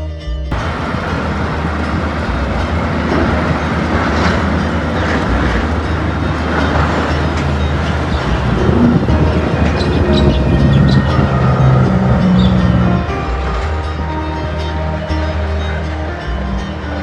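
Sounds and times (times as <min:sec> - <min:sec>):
heavy truck rumbling: 0:00.5 - 0:17.0
tyres rattling over bridge deck: 0:00.5 - 0:17.0.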